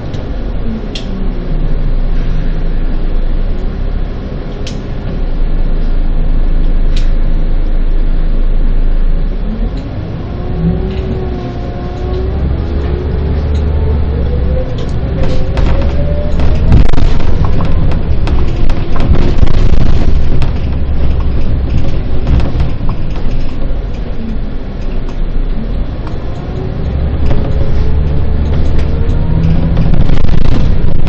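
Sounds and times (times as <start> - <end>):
bus engine droning: 0.0 - 31.0.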